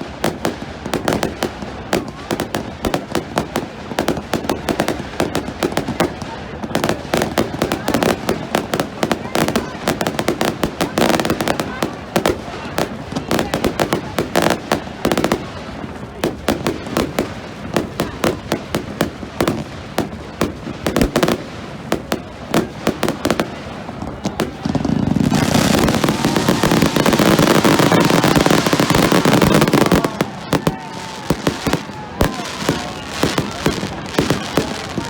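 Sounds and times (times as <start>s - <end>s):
crowd voices: 0.0s - 35.0s
fireworks bangs and crackles: 0.0s - 35.0s.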